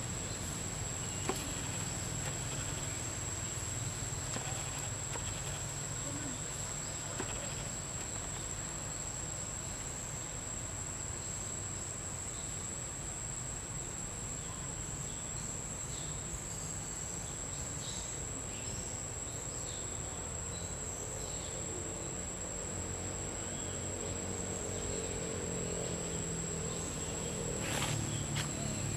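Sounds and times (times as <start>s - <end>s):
insects droning: 0.0s - 28.9s.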